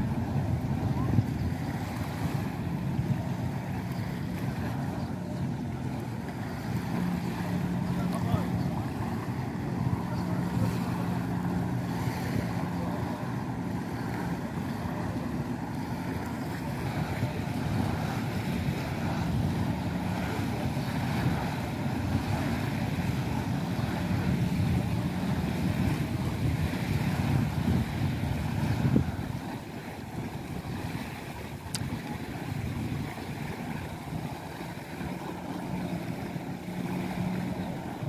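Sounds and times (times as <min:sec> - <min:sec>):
jet ski engine running: 0:00.0 - 0:38.0
water noise: 0:00.0 - 0:38.0
wind on microphone: 0:00.0 - 0:38.0.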